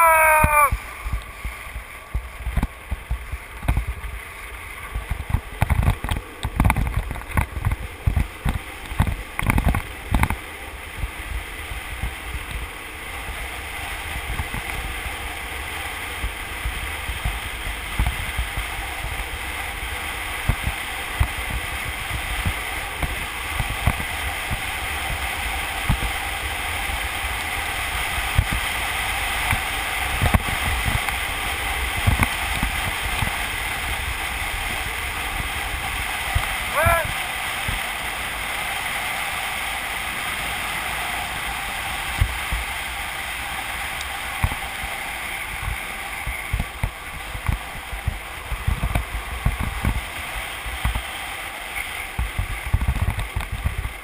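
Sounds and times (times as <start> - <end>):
wheels rolling on asphalt: 0.0 - 54.0
wind rushing over microphone: 0.0 - 54.0.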